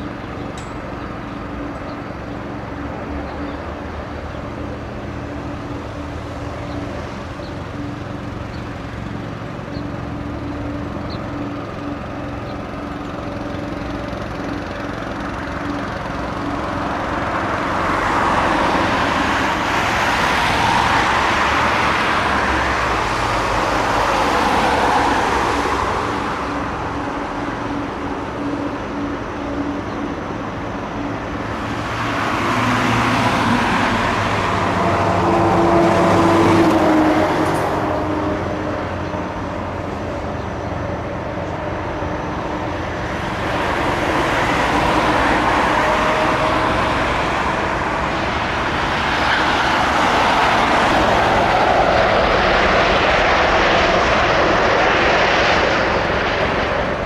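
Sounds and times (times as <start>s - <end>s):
faint engine whine: 0.0s - 57.0s
jet engines taxiing hum: 0.0s - 57.0s.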